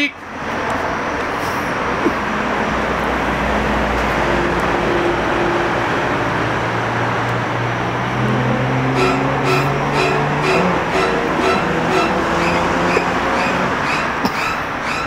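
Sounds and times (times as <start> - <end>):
road traffic noise: 0.0 - 15.0
vehicle engine hum rising in pitch: 1.6 - 15.0.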